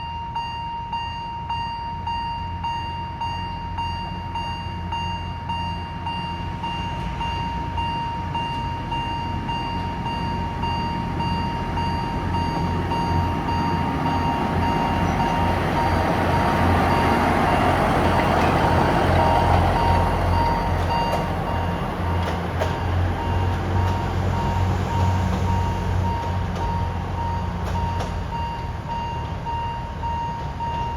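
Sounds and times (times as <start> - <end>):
diesel locomotive engine drone: 0.0 - 30.9
high beeping warning tone: 0.0 - 30.9.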